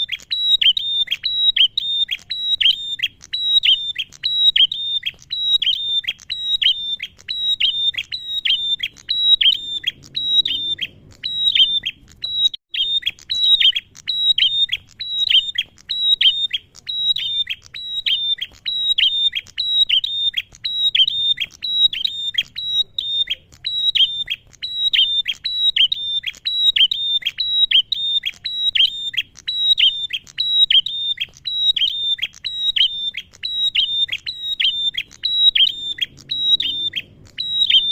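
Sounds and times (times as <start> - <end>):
bird rapid high chirps: 0.0 - 37.9.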